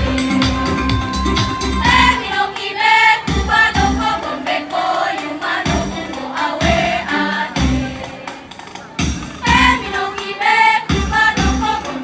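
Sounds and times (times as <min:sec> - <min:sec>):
choir singing: 0:00.0 - 0:08.6, 0:09.4 - 0:12.0
musical accompaniment with beat: 0:00.0 - 0:12.0.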